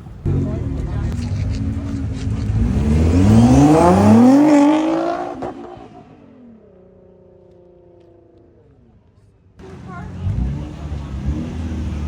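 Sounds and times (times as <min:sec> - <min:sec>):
car engine accelerating hard: 0:00.2 - 0:08.8, 0:09.6 - 0:12.0.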